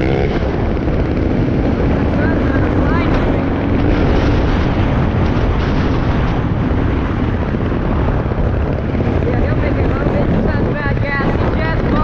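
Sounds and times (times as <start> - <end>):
dirt bike engine running: 0.0 - 12.0
wind on microphone: 0.0 - 12.0.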